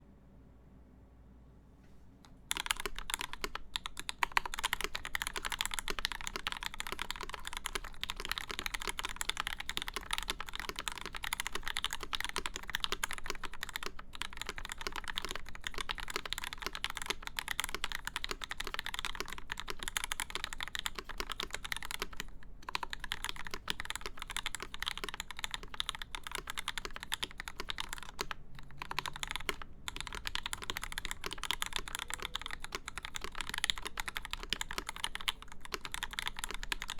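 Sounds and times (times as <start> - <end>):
fast typing on mechanical keyboard: 2.5 - 36.9.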